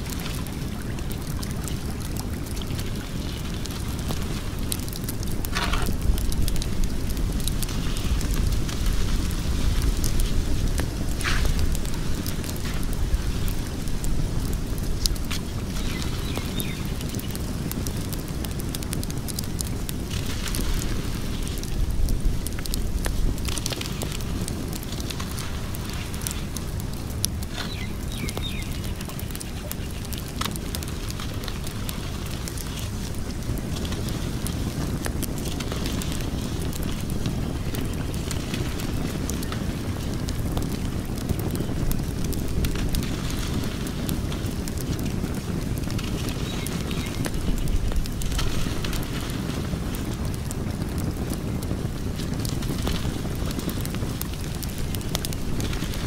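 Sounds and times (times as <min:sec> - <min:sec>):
fire hissing: 0:00.0 - 0:56.0
wood fire crackling: 0:00.0 - 0:56.0.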